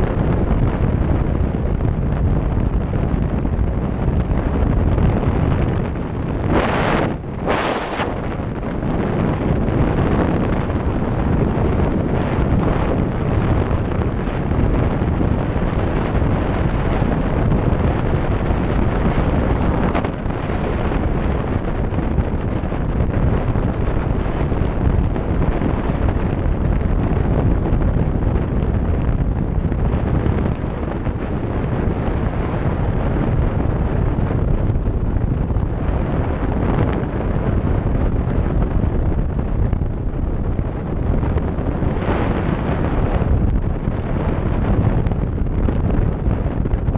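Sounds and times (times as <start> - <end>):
motorcycle road and engine rumble: 0.0 - 46.9
wind rushing over microphone: 0.0 - 46.9.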